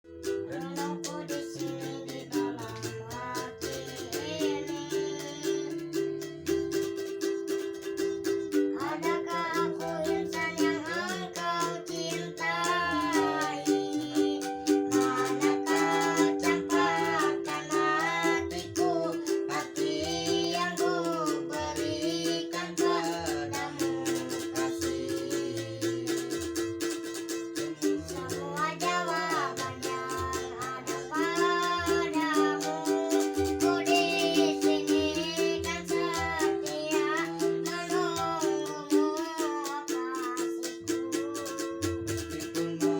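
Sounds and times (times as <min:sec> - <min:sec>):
ukulele strumming: 0:00.0 - 0:42.9
person singing: 0:00.2 - 0:42.9.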